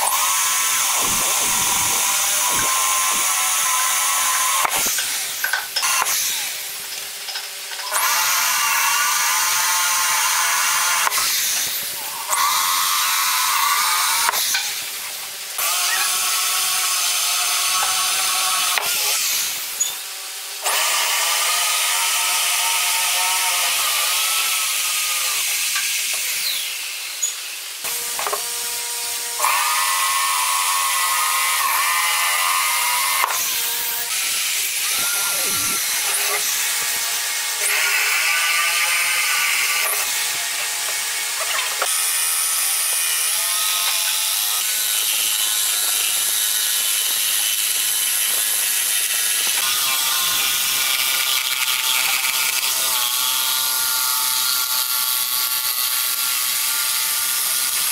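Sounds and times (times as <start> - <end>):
electric drill boring into wood: 0.0 - 57.9.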